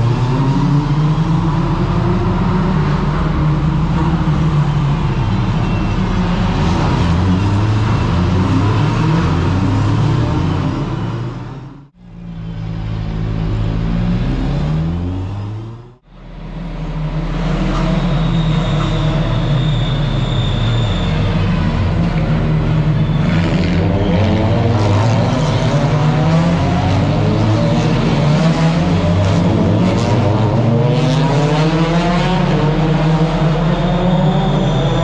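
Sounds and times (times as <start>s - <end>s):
race car engines passing: 0.0s - 35.0s.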